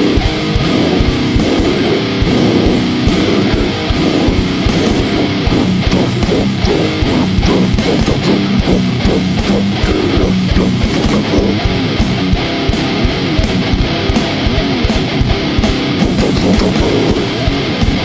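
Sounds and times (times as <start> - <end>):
electric guitar riffing: 0.0 - 18.0
fast dense drum beat: 0.0 - 18.0.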